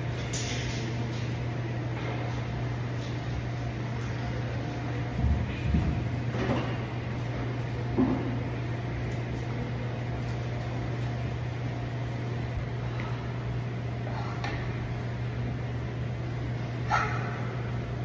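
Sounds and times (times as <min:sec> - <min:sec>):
ventilation hum: 0:00.0 - 0:18.0.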